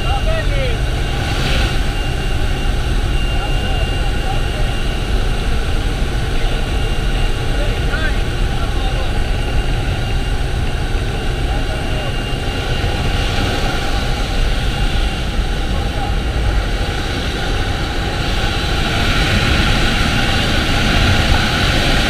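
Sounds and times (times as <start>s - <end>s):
airplane engine drone: 0.0s - 22.0s.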